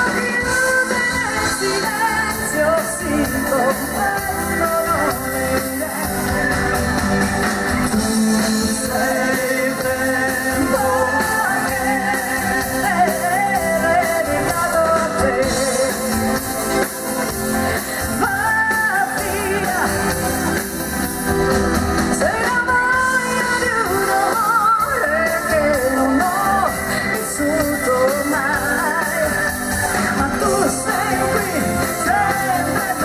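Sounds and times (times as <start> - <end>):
woman singing with vibrato: 0.0 - 21.4, 22.0 - 33.0
pop-rock band playing: 0.0 - 33.0.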